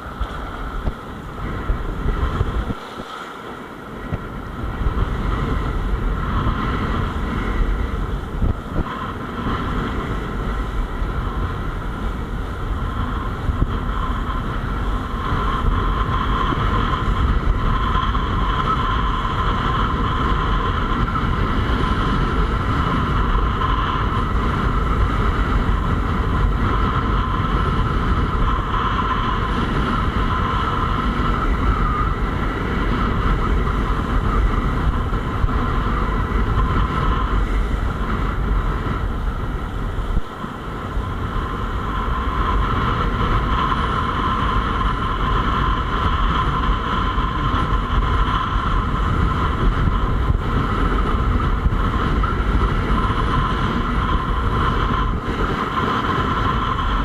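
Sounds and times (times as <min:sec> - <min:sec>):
thin steady whine: 0:00.0 - 0:57.0
wind buffeting microphone: 0:00.0 - 0:57.0.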